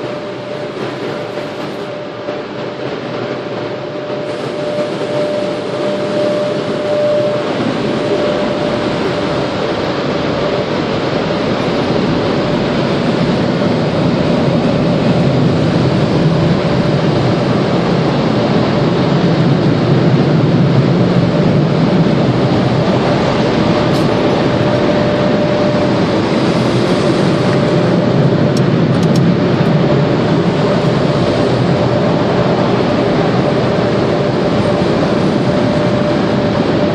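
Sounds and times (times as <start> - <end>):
car wash machinery rushing: 0.0 - 36.9.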